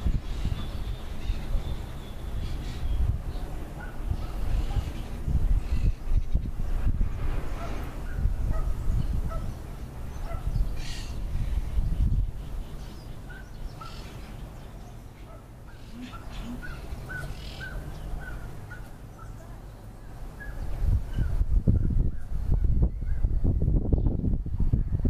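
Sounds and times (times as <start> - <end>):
birds calling: 0.0 - 22.3.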